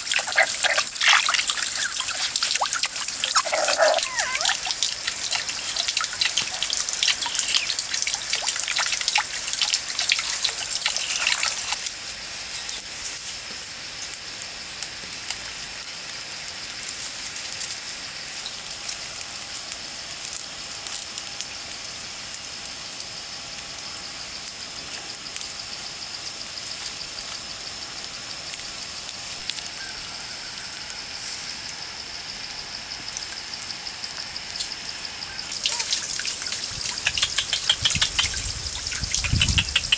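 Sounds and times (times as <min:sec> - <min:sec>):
water trickling into pond: 0:00.0 - 0:19.8, 0:22.9 - 0:39.9
wood fire crackling: 0:00.0 - 0:29.8, 0:35.5 - 0:39.9.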